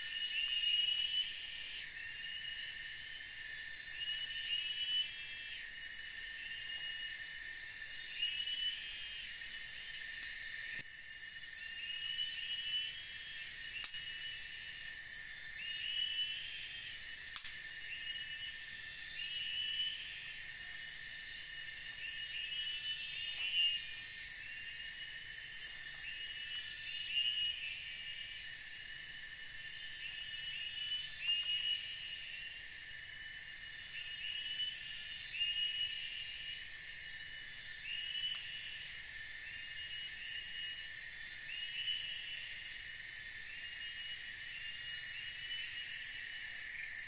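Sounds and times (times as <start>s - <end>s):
insect chirping calls: 0.0s - 47.0s
insects buzzing and shrilling: 0.0s - 47.0s.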